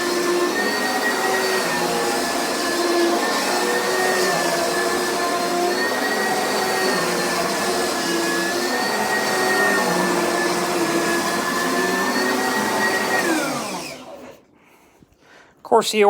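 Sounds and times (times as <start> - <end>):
vacuum cleaner motor whine: 0.0 - 14.5.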